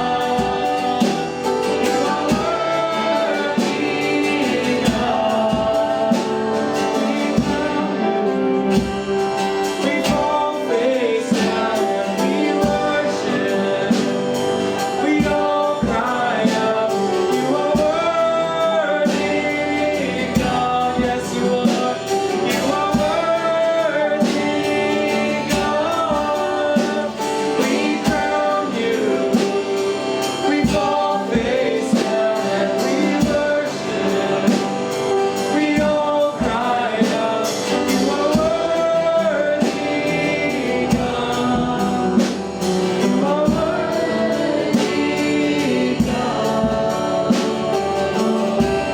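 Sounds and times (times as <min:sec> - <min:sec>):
group singing a hymn: 0:00.0 - 0:48.9
instrumental accompaniment with beat: 0:00.0 - 0:48.9.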